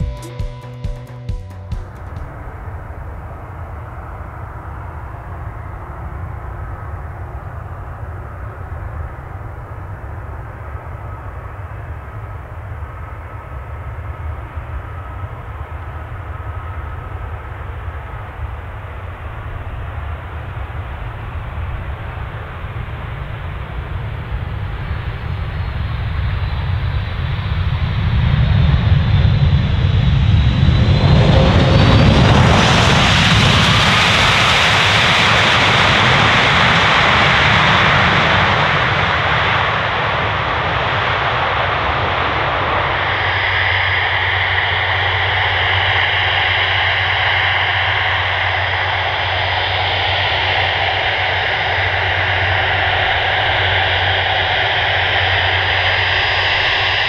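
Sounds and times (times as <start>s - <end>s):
jet engines roaring: 1.8s - 57.0s
turbofan whine while taxiing: 1.8s - 57.0s.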